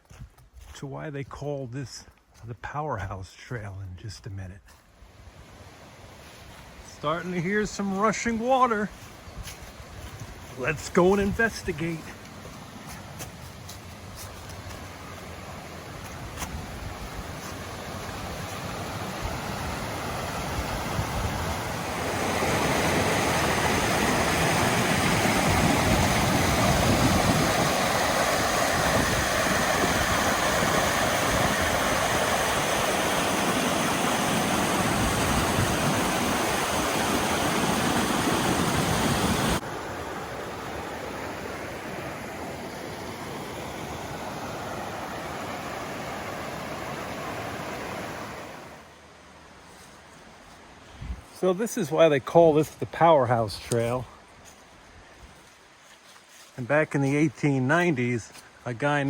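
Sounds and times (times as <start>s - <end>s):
creek water rushing: 4.8s - 59.0s.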